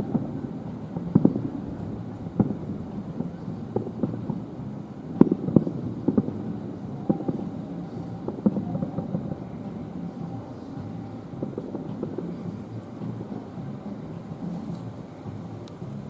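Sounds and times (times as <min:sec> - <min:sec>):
fireworks bursting: 0:00.0 - 0:16.0
rolling rumble: 0:00.0 - 0:16.0.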